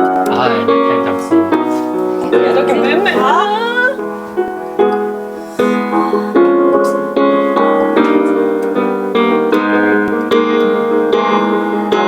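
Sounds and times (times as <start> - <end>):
piano pop tune: 0.0 - 12.0.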